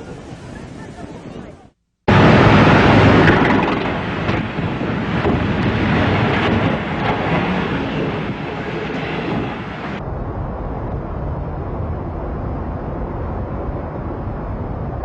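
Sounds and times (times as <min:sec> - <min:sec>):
wind on microphone: 0:00.0 - 0:15.0
helicopter rushing noise: 0:02.1 - 0:15.0.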